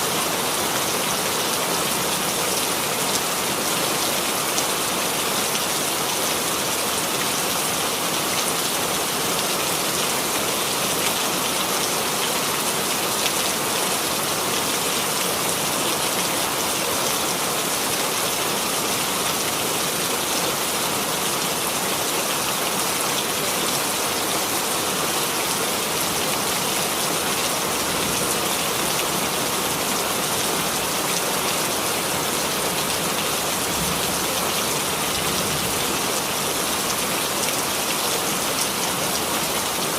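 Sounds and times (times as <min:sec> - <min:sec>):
rain pattering on a surface: 0:00.1 - 0:39.9.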